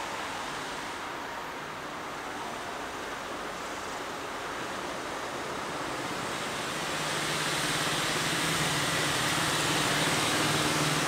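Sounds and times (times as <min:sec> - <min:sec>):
train engine low hum: 0:00.0 - 0:11.0
train rolling noise: 0:00.0 - 0:11.0.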